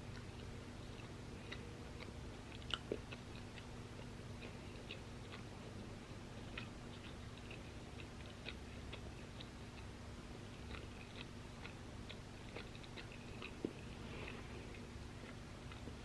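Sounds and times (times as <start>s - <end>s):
crunchy chewing: 0.0s - 16.0s
faint steady hum: 0.0s - 16.0s.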